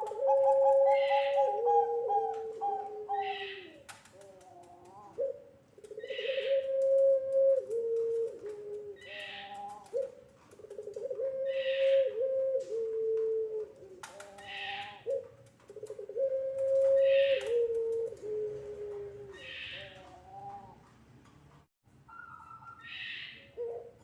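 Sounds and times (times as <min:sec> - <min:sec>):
dove cooing: 0:00.0 - 0:20.9, 0:22.1 - 0:24.0.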